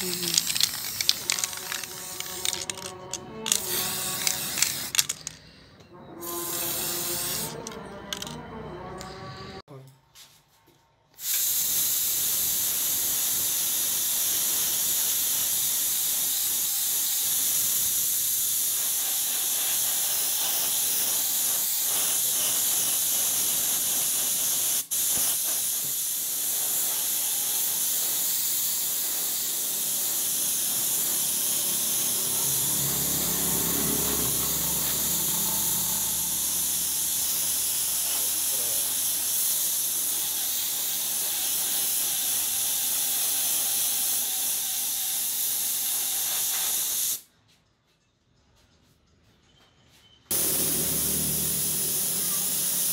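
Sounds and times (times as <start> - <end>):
paint spray gun hissing: 0.0 - 5.3, 6.3 - 8.3, 11.2 - 47.2, 50.3 - 52.9.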